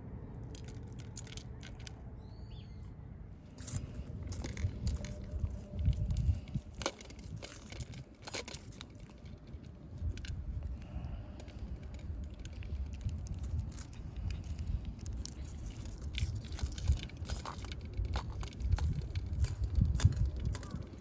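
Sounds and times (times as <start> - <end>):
low rumble: 0.0 - 21.0
cats crunching dry food: 0.4 - 2.0, 3.5 - 21.0.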